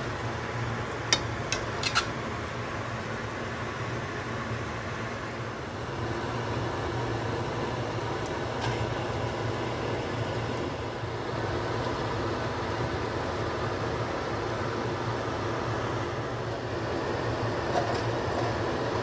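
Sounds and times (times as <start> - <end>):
machine hum with hiss: 0.0 - 19.0.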